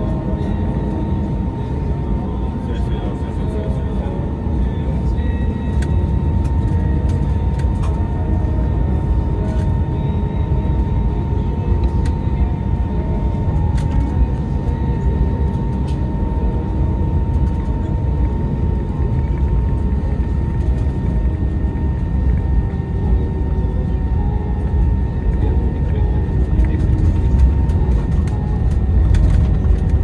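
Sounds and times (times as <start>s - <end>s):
jet engine cabin rumble: 0.0s - 30.0s
jet engine whine: 0.0s - 30.0s.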